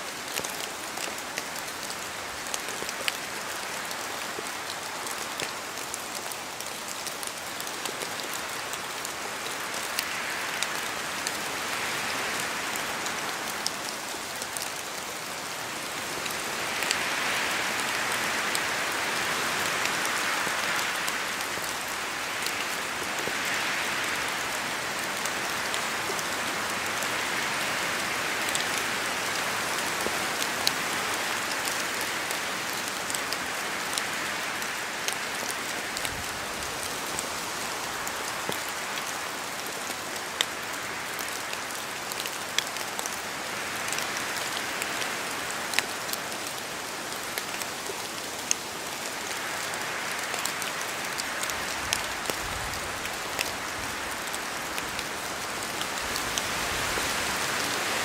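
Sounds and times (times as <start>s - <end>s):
rain pattering in forest: 0.0s - 58.0s
wind gusts in trees: 0.0s - 58.0s.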